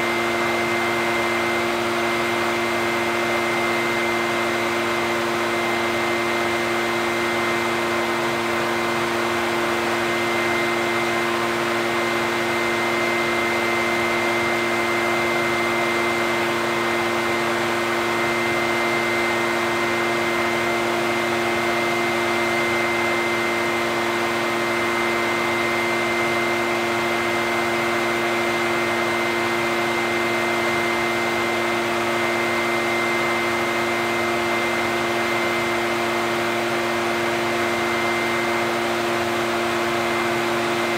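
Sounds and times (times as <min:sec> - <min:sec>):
leaf blower engine running: 0:07.2 - 0:40.9.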